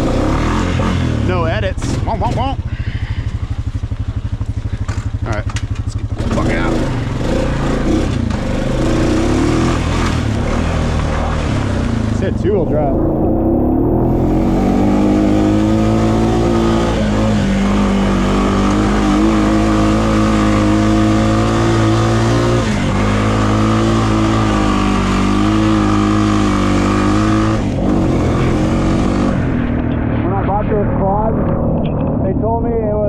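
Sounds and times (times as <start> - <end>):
quad engine revving: 0.0 - 33.0.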